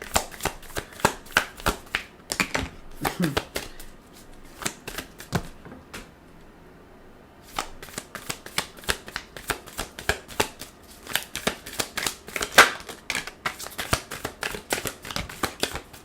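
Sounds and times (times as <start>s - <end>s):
cards being shuffled: 0.0s - 6.1s, 7.4s - 16.0s.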